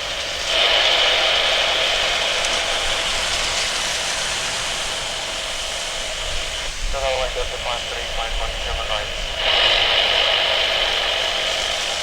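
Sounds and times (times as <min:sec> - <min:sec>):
jet engine hiss: 0:00.0 - 0:12.0.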